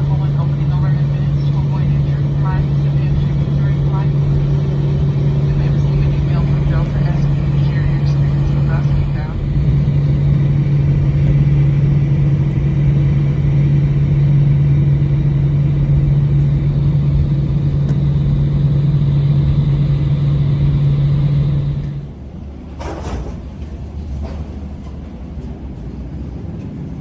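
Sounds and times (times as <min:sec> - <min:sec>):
jet airliner cabin drone: 0:00.0 - 0:27.0.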